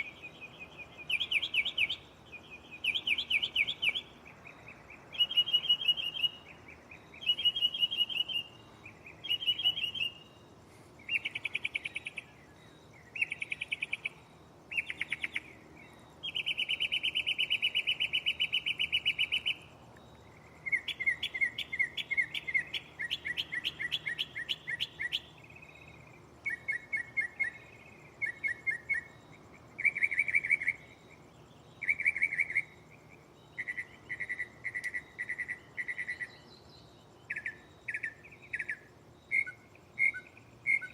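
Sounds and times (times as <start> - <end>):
mockingbird singing: 0.0 - 40.9.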